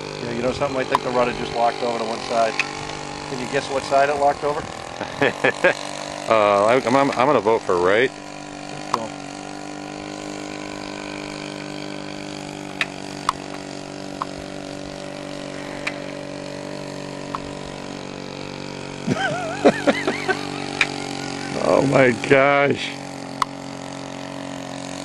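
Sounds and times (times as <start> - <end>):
two-stroke engine droning: 0.0 - 25.0.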